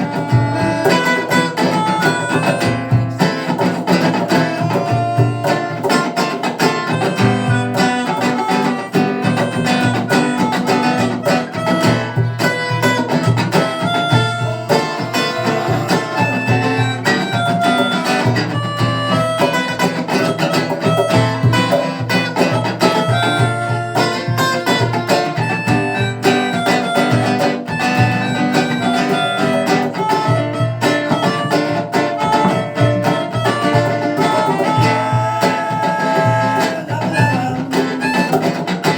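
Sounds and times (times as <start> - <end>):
live band instrumental: 0.0 - 38.9.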